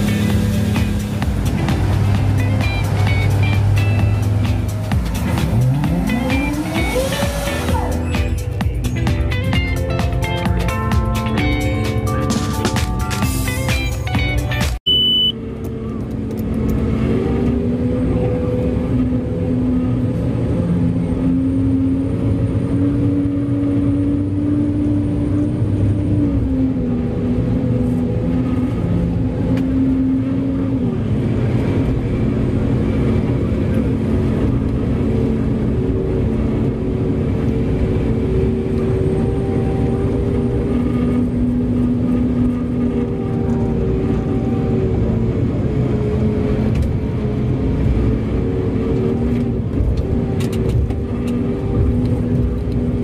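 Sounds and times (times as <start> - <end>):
big diesel engines droning: 0.0 - 53.0.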